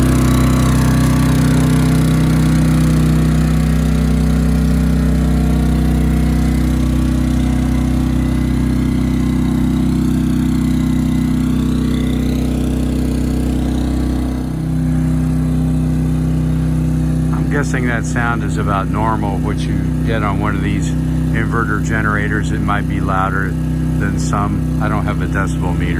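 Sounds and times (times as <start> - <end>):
portable generator running: 0.0 - 25.9.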